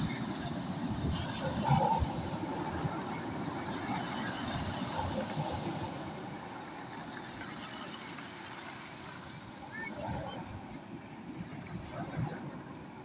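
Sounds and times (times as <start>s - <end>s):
waves washing over pebbles: 0.0s - 13.0s.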